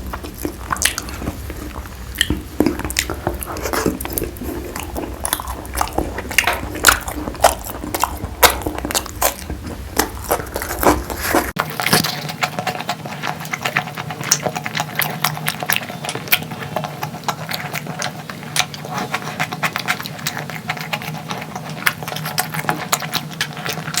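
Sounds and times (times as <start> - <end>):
close chewing and biting: 0.0 - 24.0
low background hum: 0.0 - 24.0.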